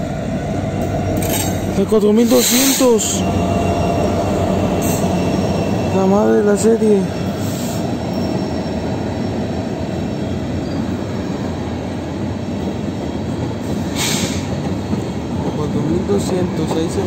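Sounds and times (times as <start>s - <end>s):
steel wheels rumbling on rail: 0.0s - 17.0s.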